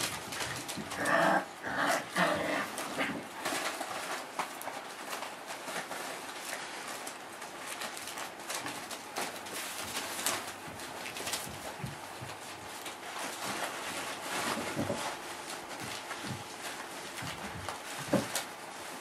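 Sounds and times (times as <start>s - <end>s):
newspaper rustling: 0.0s - 19.0s
puppies scratching and knocking: 0.0s - 19.0s.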